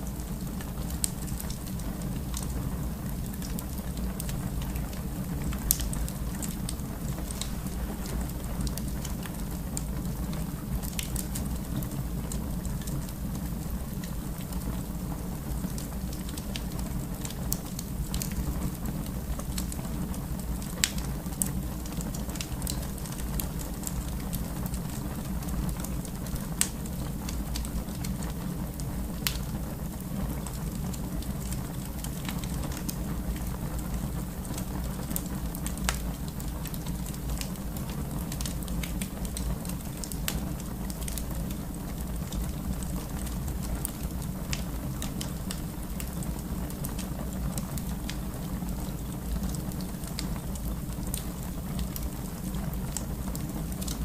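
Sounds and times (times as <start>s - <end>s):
fire pops and snaps: 0.0s - 54.0s
low rumble of flames: 0.0s - 54.0s.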